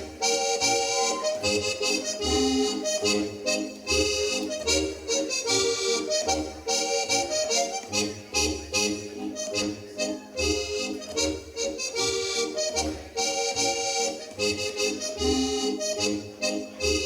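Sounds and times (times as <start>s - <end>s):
accordion dance music: 0.0s - 17.0s.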